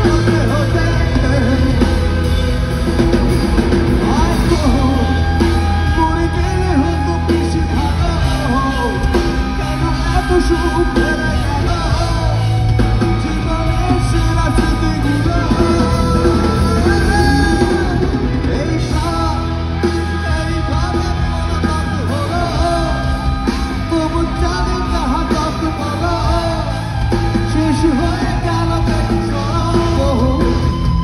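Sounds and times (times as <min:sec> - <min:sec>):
live rock band playing loud: 0:00.0 - 0:31.0
people singing: 0:03.9 - 0:31.0.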